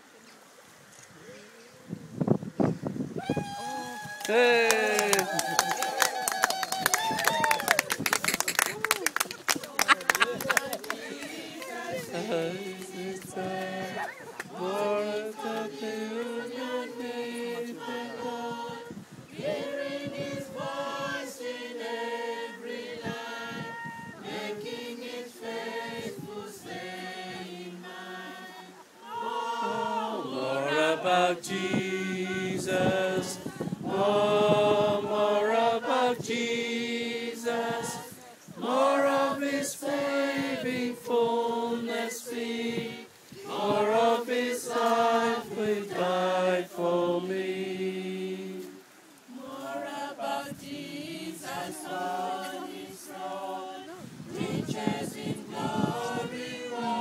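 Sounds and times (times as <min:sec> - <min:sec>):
group singing a hymn: 0:09.5 - 0:57.0.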